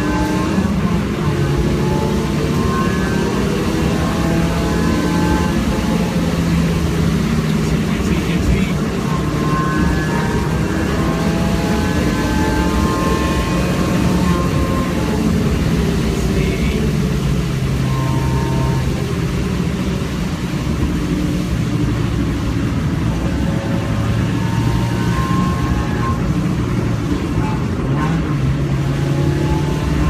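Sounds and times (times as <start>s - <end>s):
car engine running: 0.0s - 30.0s
road noise on wet track: 0.0s - 30.0s.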